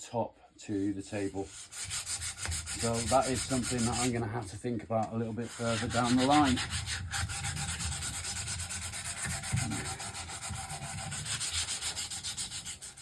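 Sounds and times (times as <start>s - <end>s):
sandpaper sanding wood: 1.1s - 4.6s, 5.2s - 13.0s.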